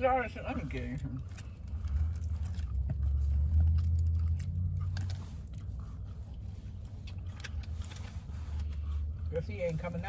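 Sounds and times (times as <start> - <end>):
car hum: 0.0 - 10.0
person chewing crispy food: 0.8 - 8.9.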